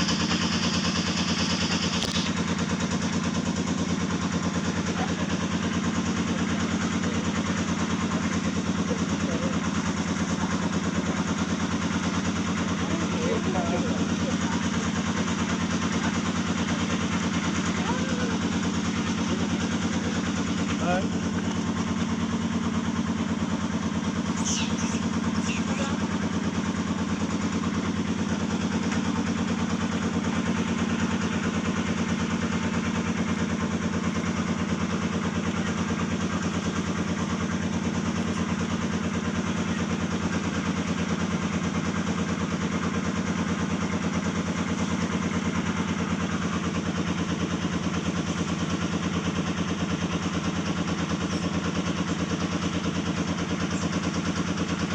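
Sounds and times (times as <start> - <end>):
motor drone pulsing: 0.0 - 54.9.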